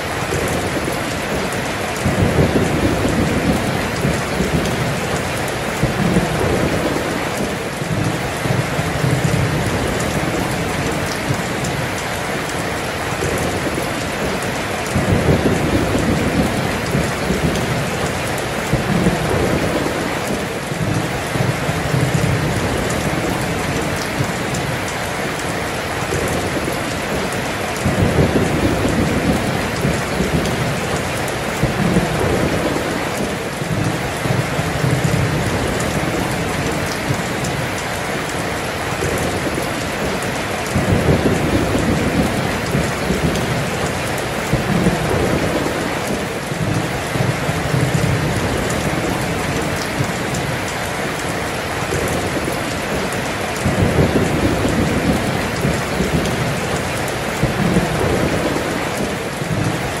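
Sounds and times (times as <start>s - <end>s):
heavy rain pouring: 0.0s - 60.0s
low rolling thunder: 0.0s - 60.0s.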